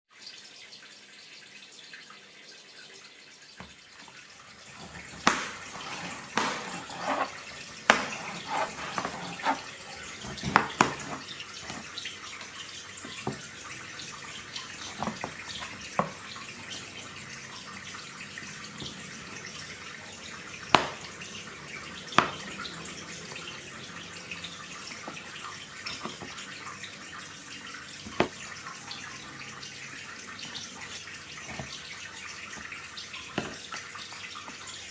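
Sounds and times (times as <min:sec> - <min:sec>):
tap water running into sink: 0:00.1 - 0:34.9.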